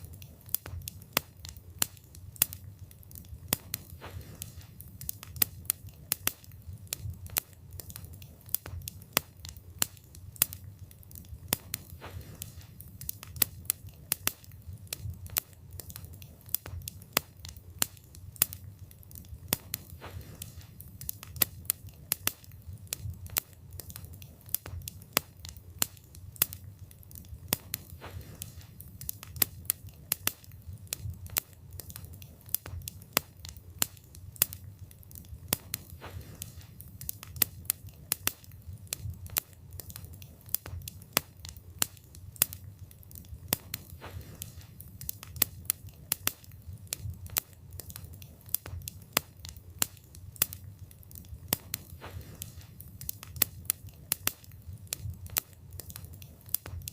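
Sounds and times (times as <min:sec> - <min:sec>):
wood fire burning: 0:00.0 - 0:56.9.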